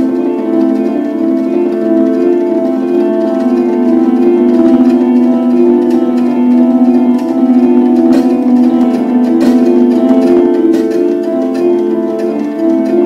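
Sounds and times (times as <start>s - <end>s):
instrumental music with held notes: 0.0s - 13.0s.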